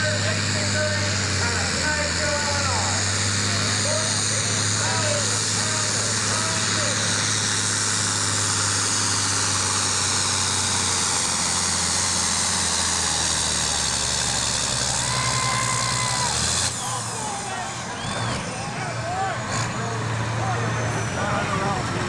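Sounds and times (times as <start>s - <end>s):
tractor engine under heavy load: 0.0s - 22.0s.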